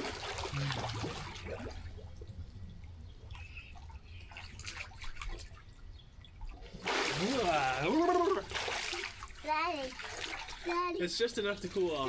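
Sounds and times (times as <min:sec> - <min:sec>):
soft water trickling: 0:00.0 - 0:12.0.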